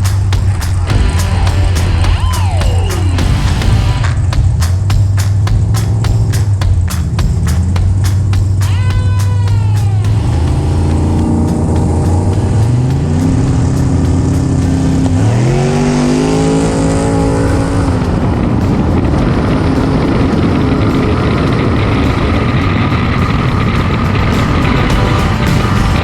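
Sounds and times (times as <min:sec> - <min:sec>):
engine and road noise rush: 0:00.0 - 0:26.0
engine revving: 0:00.0 - 0:26.0.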